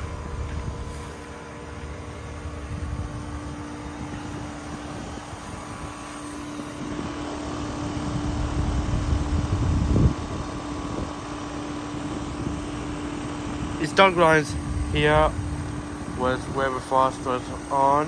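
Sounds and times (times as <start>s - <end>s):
fan air rushing: 0.0s - 18.0s
heat pump humming: 0.0s - 18.0s.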